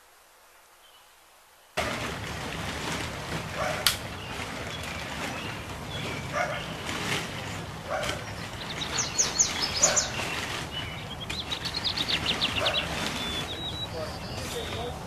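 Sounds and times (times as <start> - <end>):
songbird singing: 0.4 - 1.8, 3.6 - 15.0.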